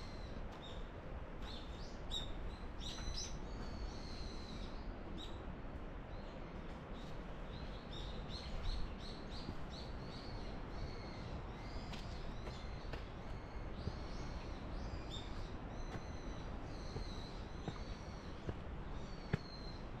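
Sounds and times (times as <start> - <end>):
small birds chirping: 0.0 - 5.4, 6.2 - 20.0
steady low rumble: 0.0 - 20.0.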